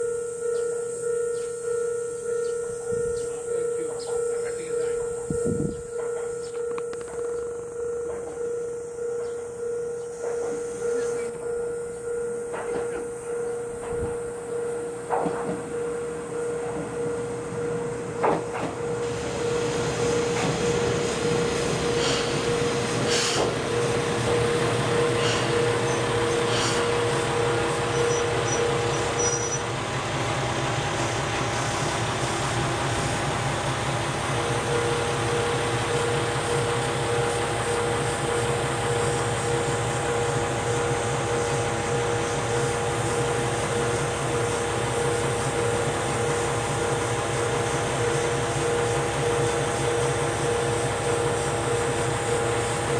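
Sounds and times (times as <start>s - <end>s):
diesel railcar engine and wheels: 0.0s - 52.9s
railway crossing warning bell: 0.0s - 52.9s.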